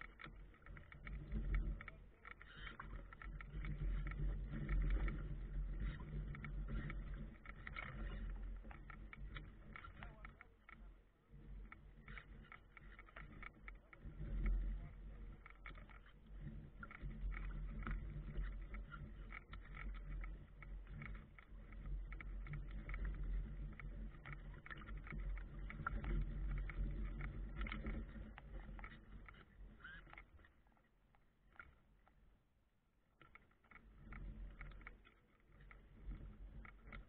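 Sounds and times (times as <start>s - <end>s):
wind rumbling on microphone: 0.0s - 30.2s
water slapping wooden hull: 0.0s - 32.2s.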